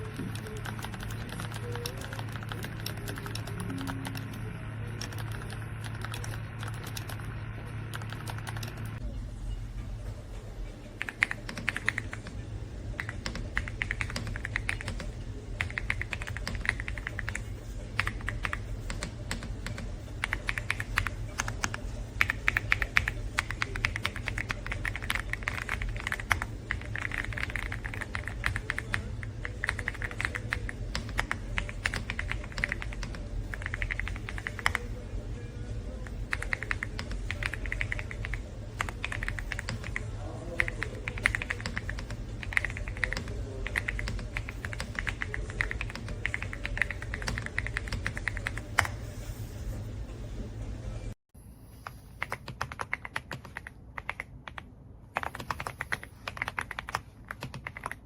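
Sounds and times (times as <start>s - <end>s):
mechanical keyboard typing: 0.0s - 4.4s, 5.0s - 7.3s, 7.9s - 9.0s, 11.0s - 12.4s, 13.0s - 34.9s, 36.0s - 48.9s, 52.2s - 54.6s, 55.2s - 58.0s.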